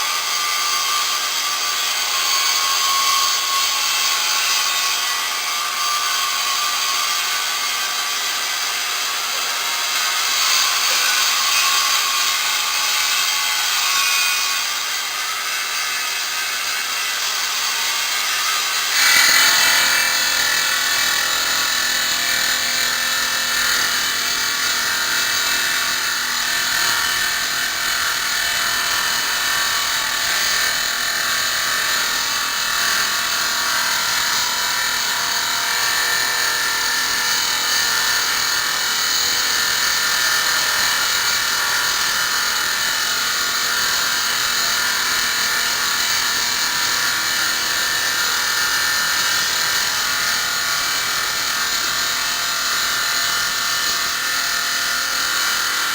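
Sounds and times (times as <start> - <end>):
stone-cutting saw whining: 0.0 - 55.9.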